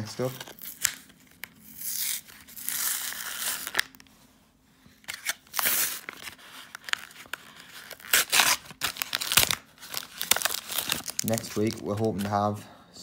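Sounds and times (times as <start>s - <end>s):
foil wrapper tearing and crinkling: 0.1s - 4.0s, 5.1s - 12.4s.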